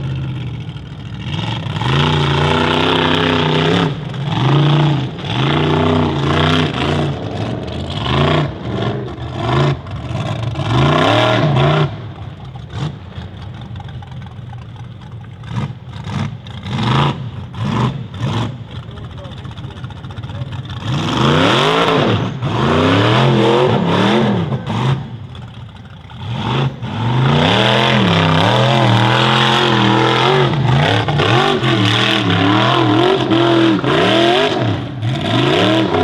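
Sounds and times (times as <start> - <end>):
buggy engine revving: 0.0 - 36.0.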